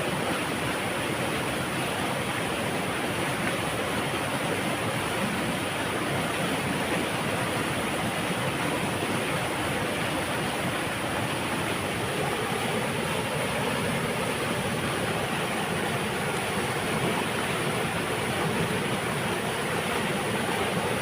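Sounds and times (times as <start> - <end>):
water rushing through dam: 0.0 - 21.0.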